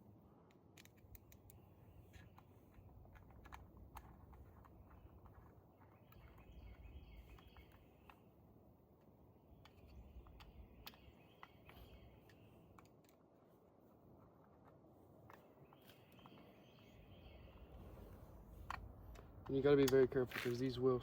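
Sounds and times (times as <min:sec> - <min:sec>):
faint birdsong: 0:00.0 - 0:21.0.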